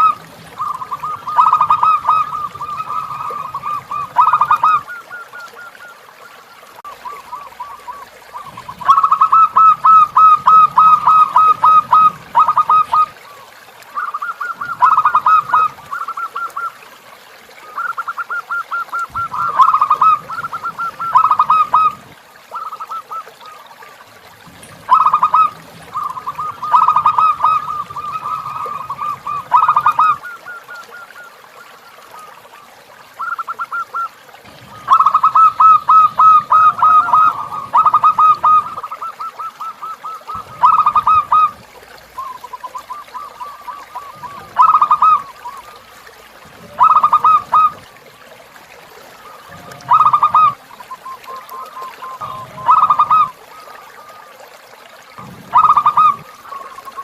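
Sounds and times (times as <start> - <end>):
doves cooing: 0.0 - 16.9, 17.6 - 57.0.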